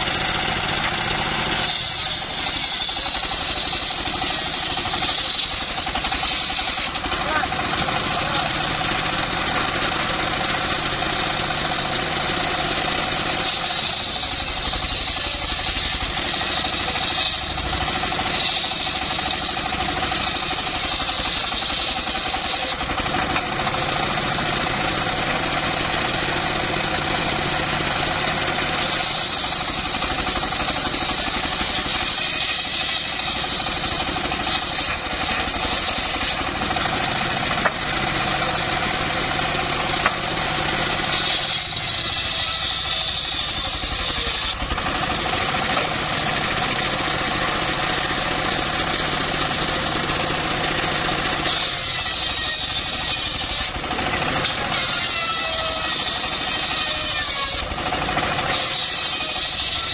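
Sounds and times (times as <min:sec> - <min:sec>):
circular sawmill running: 0:00.0 - 0:59.9.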